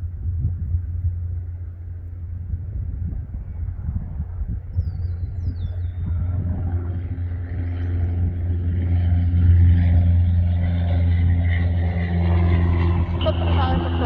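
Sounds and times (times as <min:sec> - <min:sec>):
jet engine drone in cabin: 0:00.0 - 0:14.0.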